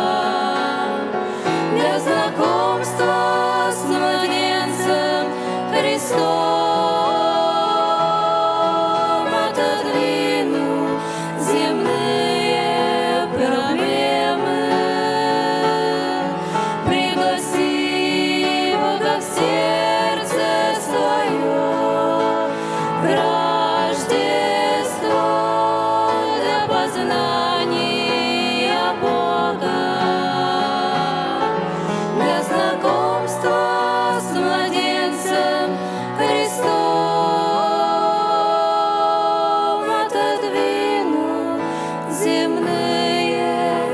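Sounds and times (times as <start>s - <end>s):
gospel song with voices singing: 0.0s - 43.9s.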